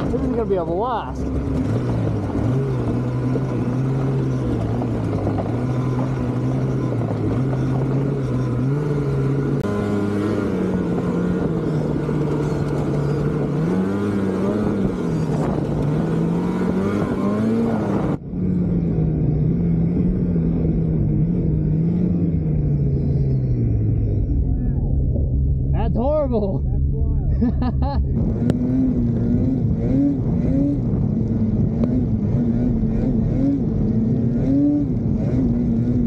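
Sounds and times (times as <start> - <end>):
snowmobile engine revving: 0.0 - 18.2, 19.5 - 36.0.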